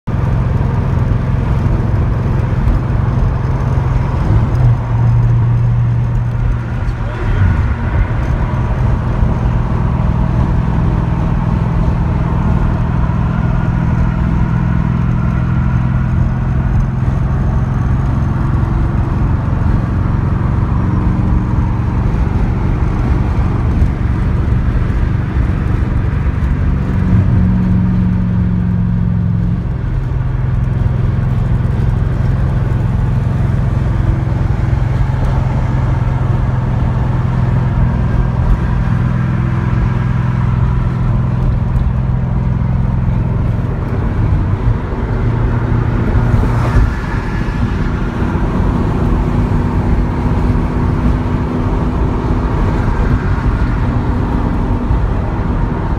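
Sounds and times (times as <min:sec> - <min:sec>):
car engine cruising: 0:00.0 - 0:55.9
road noise: 0:00.0 - 0:55.9.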